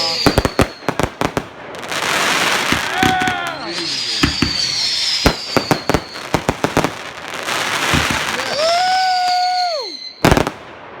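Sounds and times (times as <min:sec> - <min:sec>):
fireworks pops and bangs: 0:00.0 - 0:09.5, 0:10.2 - 0:11.0
firework whistling tone: 0:00.0 - 0:10.8
fireworks hissing crackle: 0:00.0 - 0:11.0.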